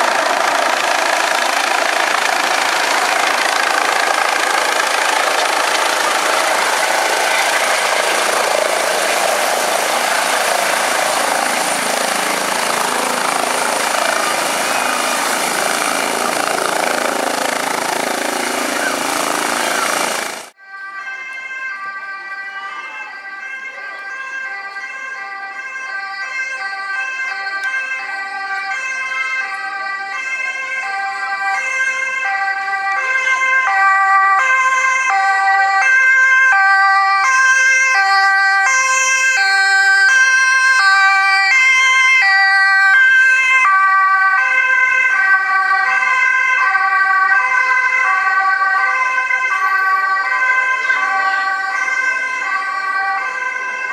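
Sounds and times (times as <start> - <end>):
two-tone ambulance siren: 0.0 - 53.9.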